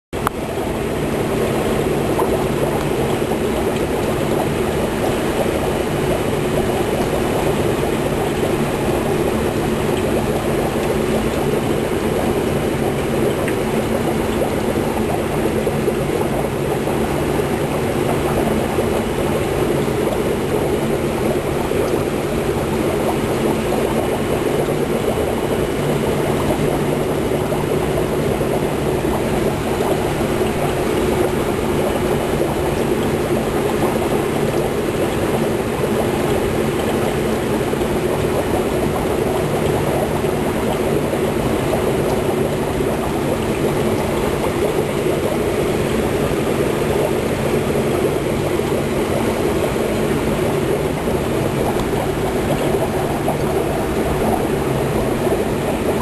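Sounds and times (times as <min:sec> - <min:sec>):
aquarium equipment humming: 0:00.1 - 0:56.0
water trickling and splashing: 0:00.2 - 0:56.0.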